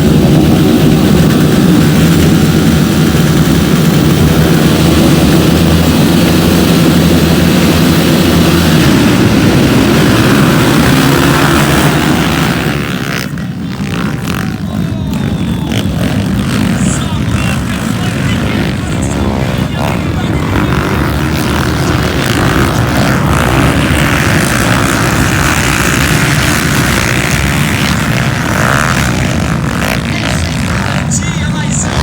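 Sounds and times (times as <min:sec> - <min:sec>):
motocross motorcycle engine: 0:00.0 - 0:32.0.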